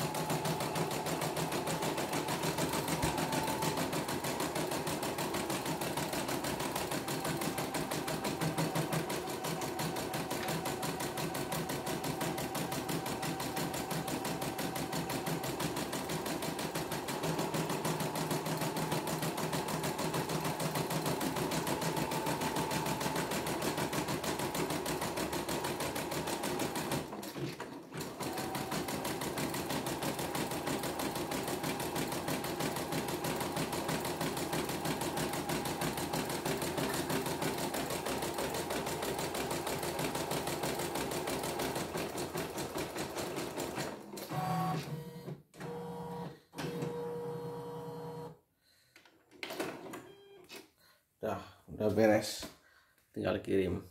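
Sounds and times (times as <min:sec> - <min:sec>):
embroidery machine stitching: 0:00.0 - 0:48.3.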